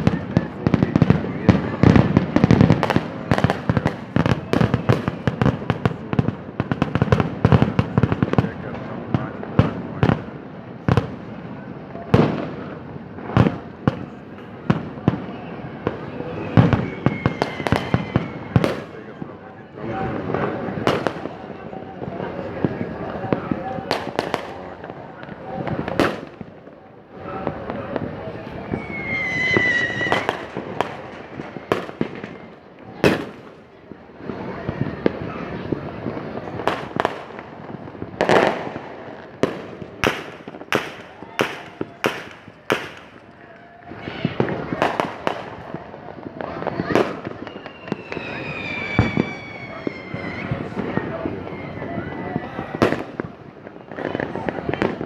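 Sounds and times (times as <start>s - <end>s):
firework whistling: 0.0s - 8.4s, 9.6s - 55.0s
fireworks bangs: 0.0s - 55.0s.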